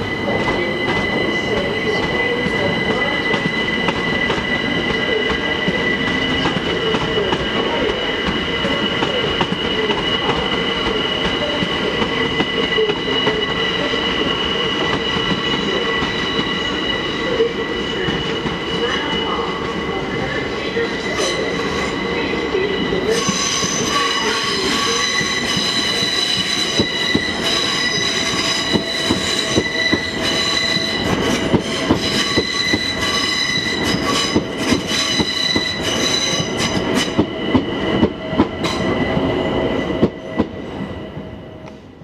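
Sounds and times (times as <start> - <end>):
train wheels squealing on rails: 0.0 - 42.0.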